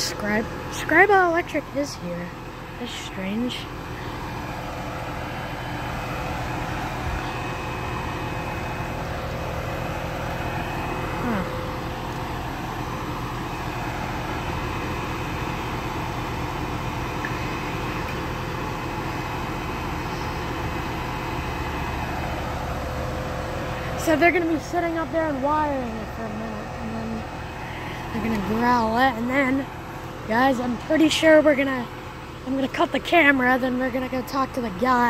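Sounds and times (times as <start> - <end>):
engine idling: 0.0 - 35.0
steady hum: 0.0 - 35.0.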